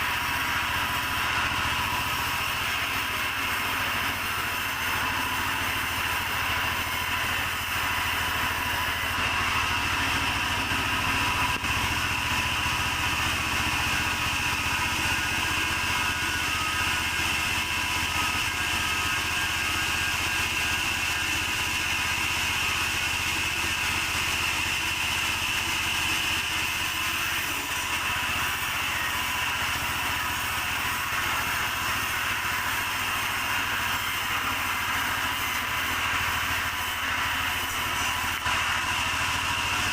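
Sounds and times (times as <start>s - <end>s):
engine drone: 0.0s - 39.9s
saw high whine: 0.0s - 39.9s.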